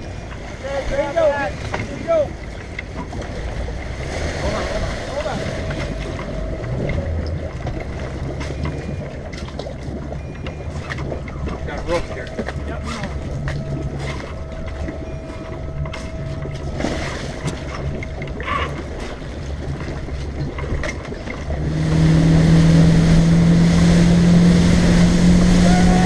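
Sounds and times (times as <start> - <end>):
boat engine: 0.0 - 26.0
wind: 0.0 - 26.0.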